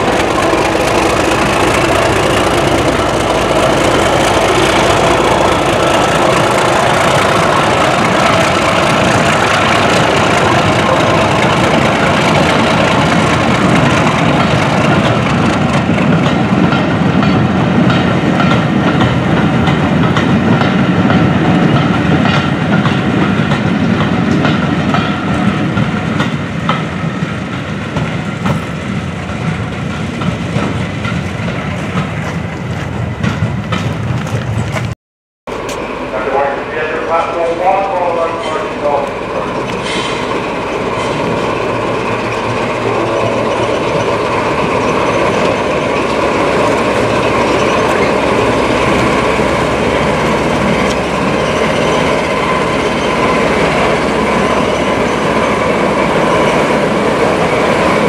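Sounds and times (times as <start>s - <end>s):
wheels clicking over rail joints: 0.0s - 34.9s, 37.2s - 58.0s
train rumbling: 0.0s - 58.0s.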